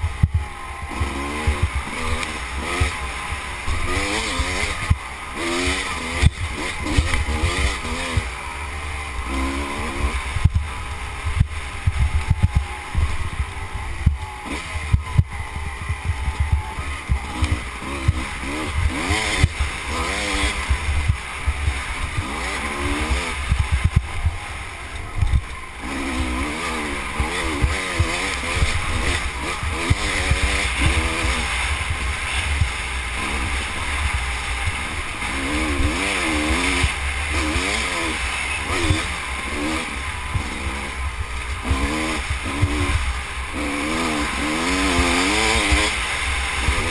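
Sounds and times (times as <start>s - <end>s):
motorcycle engine revving: 0.0s - 46.9s
wind rumble on microphone: 3.6s - 46.9s.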